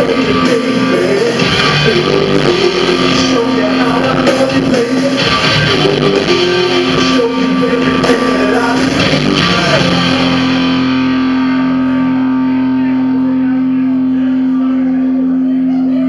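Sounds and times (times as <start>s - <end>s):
live band guitar music: 0.0s - 15.2s.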